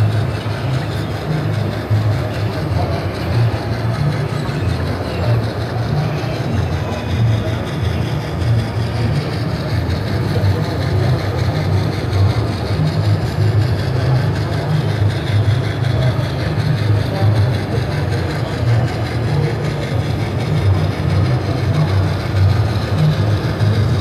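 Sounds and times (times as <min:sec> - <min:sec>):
model steam locomotive rumble: 0:00.0 - 0:24.0.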